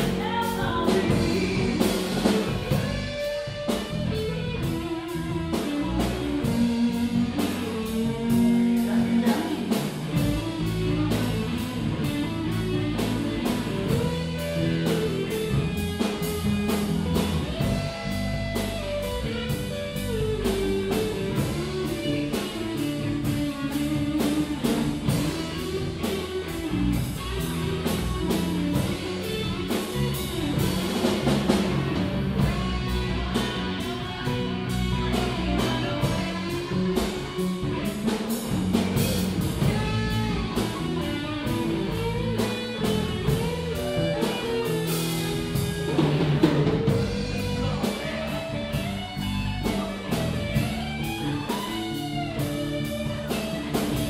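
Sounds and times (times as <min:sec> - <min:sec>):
drum kit beat: 0:00.0 - 0:54.0
guitar melody: 0:00.0 - 0:54.0.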